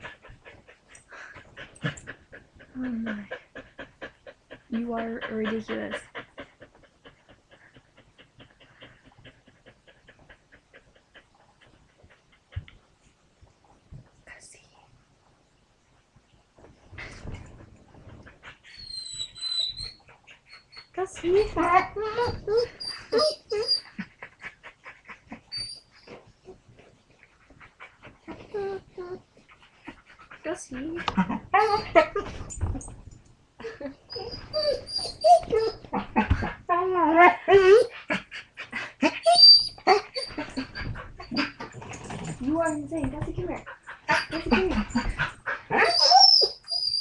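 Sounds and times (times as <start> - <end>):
dog panting: 0.0 - 13.8, 16.9 - 32.9, 33.6 - 36.7, 37.3 - 47.0.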